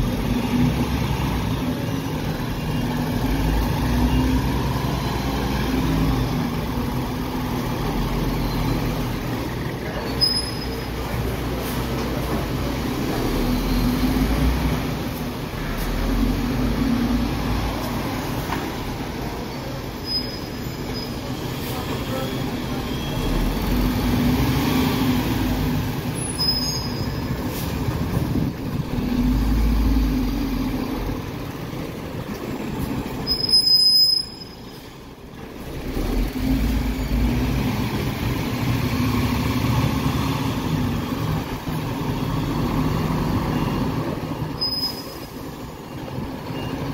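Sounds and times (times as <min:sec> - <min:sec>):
truck diesel engine rumbling: 0:00.0 - 0:46.9.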